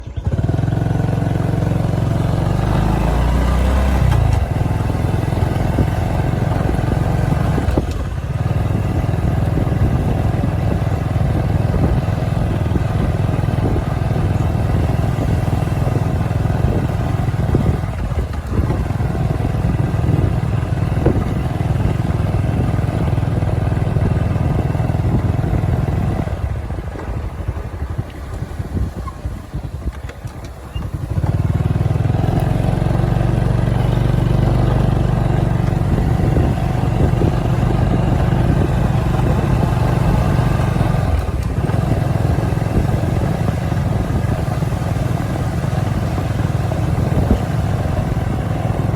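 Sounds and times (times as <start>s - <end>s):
motorcycle engine rumble: 0.0s - 48.9s.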